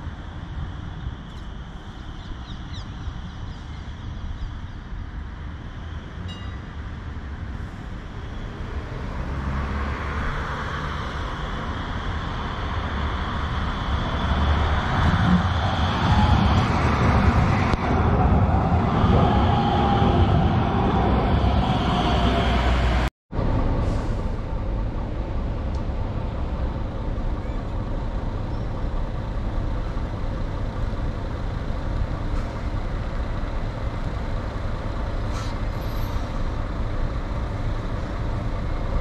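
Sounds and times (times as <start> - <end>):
tram rolling on rails: 0.0 - 39.0.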